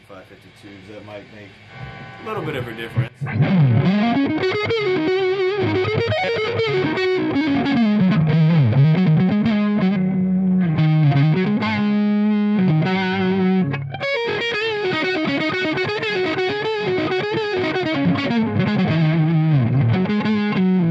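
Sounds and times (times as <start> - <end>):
distorted electric guitar riffs: 1.6 - 20.9.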